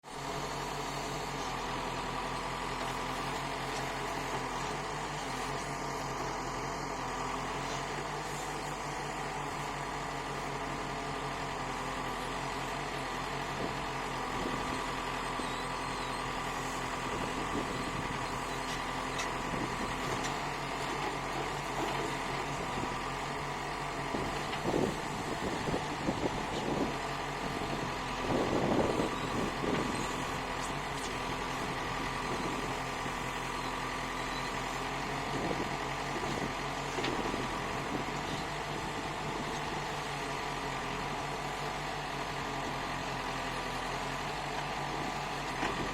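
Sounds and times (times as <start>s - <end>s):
diesel engine idling: 0.2s - 45.9s.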